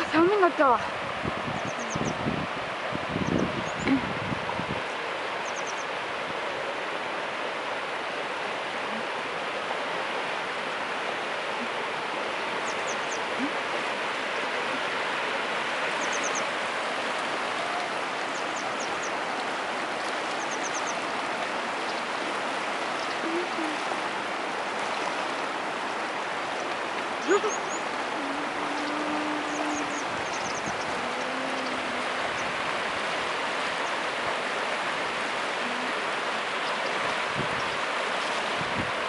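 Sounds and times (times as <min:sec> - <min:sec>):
river running over rocks: 0:00.0 - 0:39.0.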